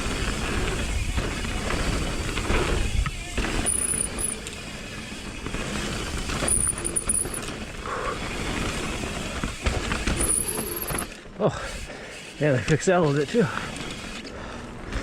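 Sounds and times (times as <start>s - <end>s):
bike hub whirring: 0.0s - 15.0s
bike tyres and frame rattling: 0.0s - 15.0s.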